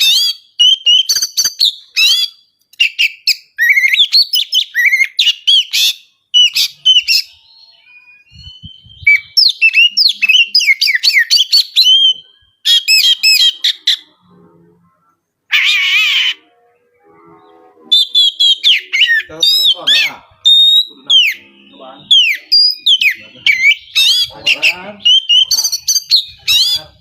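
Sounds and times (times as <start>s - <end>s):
bird singing high chirps and whistles: 0.0s - 27.0s.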